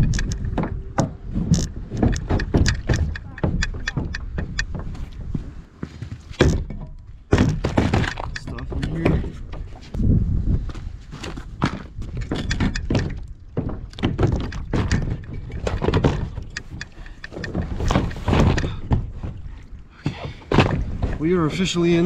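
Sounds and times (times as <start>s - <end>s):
wind rumbling on microphone: 0.0s - 5.7s, 6.4s - 22.0s.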